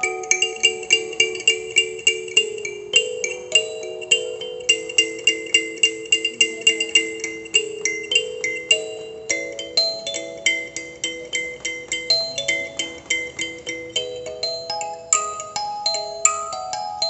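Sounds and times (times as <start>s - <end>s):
kalimba plucked notes: 0.0s - 17.0s.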